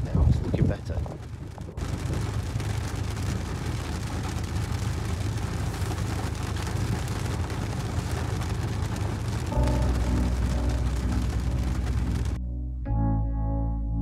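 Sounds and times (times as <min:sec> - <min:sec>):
heavy rain on car roof: 0:00.0 - 0:12.4.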